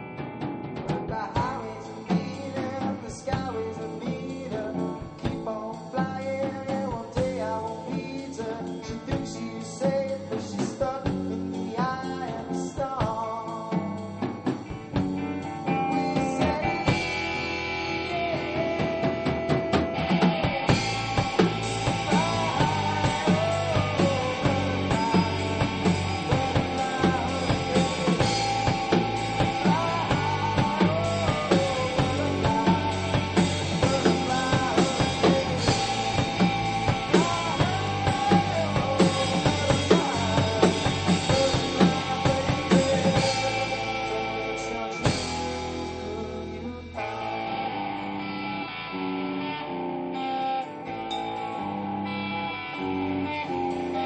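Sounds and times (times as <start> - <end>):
drum kit playing a steady beat: 0.0 - 47.0
bending melodic lead guitar line: 0.0 - 54.0
rock guitar: 0.0 - 54.0.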